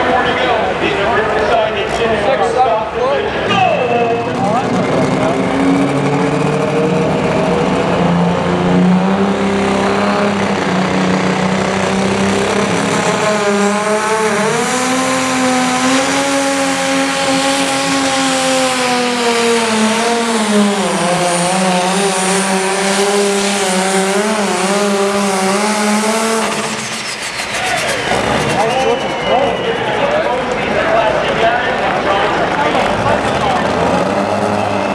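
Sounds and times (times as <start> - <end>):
diesel engine at full throttle: 0.0 - 34.9.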